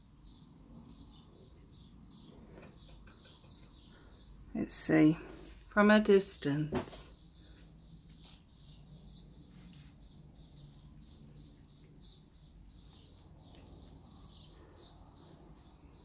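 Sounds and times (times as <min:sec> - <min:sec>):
bird chirping: 0:00.0 - 0:05.1, 0:06.4 - 0:16.0.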